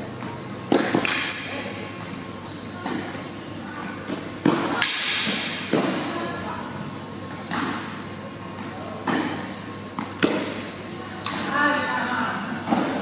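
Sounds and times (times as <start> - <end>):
shoes squeaking on court: 0.2 - 4.3, 5.6 - 7.9, 8.5 - 13.0.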